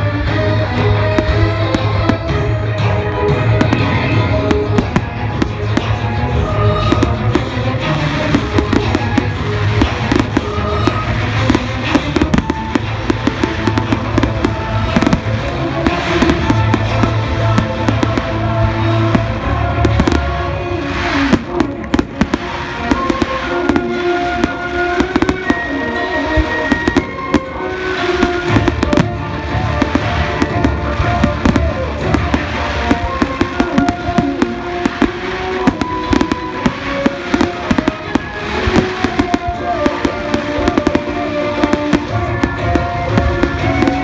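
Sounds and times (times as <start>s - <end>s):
fireworks bangs and crackles: 0.0s - 44.0s
music: 0.0s - 44.0s.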